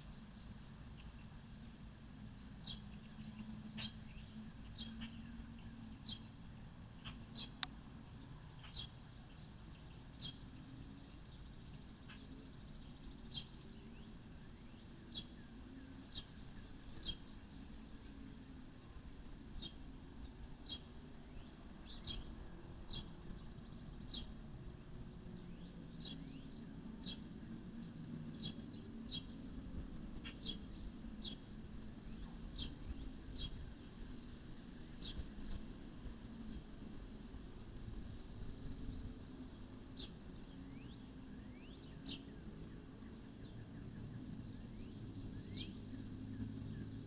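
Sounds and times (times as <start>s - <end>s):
low rumbling drone: 0.0s - 47.0s.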